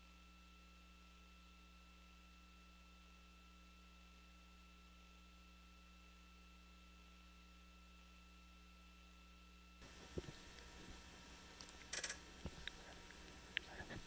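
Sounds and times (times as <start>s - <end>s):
faint electrical hum and hiss: 0.0s - 14.0s.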